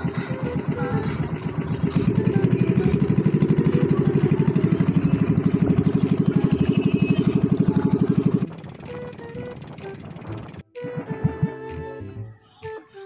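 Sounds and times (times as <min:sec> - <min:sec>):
boat engine pulsing: 0:00.0 - 0:12.2.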